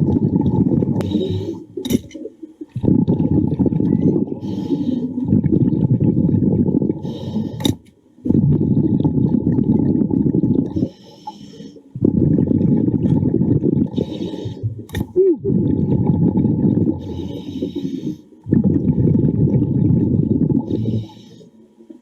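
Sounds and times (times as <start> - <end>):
diver exhaling air bubbles: 0.0 - 21.5.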